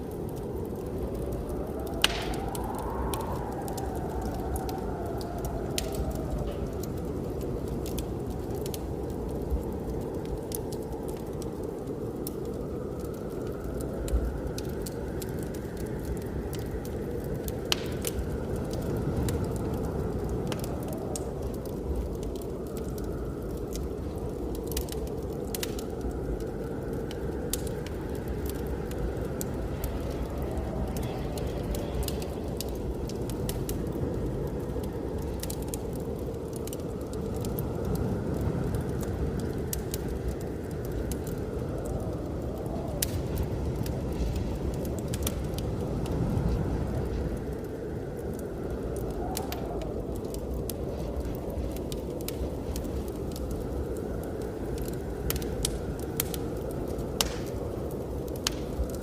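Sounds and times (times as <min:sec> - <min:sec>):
blizzard wind rumbling: 0:00.0 - 0:59.0
wood fire crackling and popping: 0:00.0 - 0:59.0.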